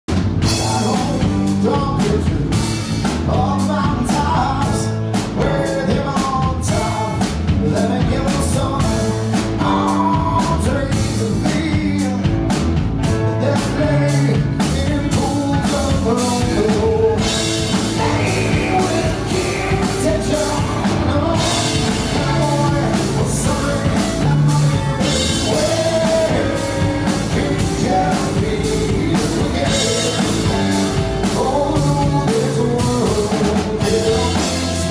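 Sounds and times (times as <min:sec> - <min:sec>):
drum kit: 0:00.0 - 0:34.9
electric guitars: 0:00.1 - 0:34.9
person singing: 0:00.4 - 0:12.4, 0:13.0 - 0:34.9.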